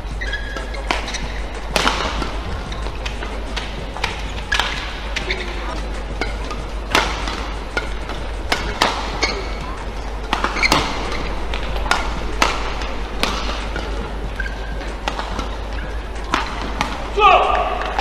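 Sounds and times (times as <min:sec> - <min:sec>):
arena background noise: 0:00.0 - 0:18.0
court shoes squeaking: 0:00.0 - 0:18.0
rackets striking shuttlecock: 0:00.1 - 0:18.0.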